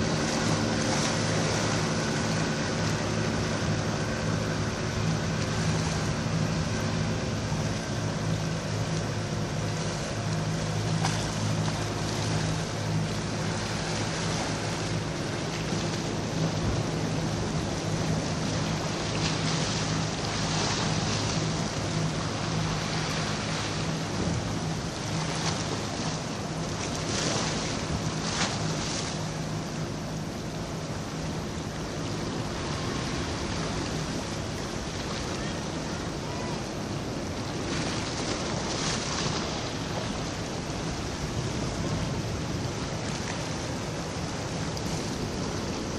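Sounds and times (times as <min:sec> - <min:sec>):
boat engine humming: 0:00.0 - 0:45.9
waves washing: 0:00.0 - 0:45.9.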